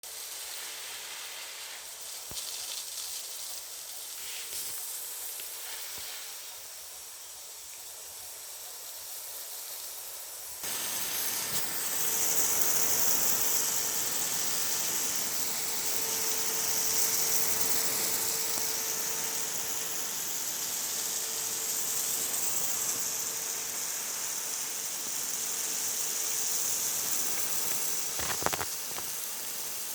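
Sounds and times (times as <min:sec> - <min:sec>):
sprinkler water jet hissing: 0:00.0 - 0:29.9.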